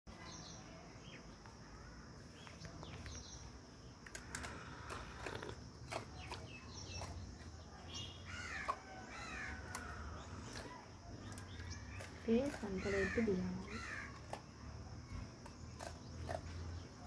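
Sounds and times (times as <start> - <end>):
faint birds chirping: 0.1 - 17.0.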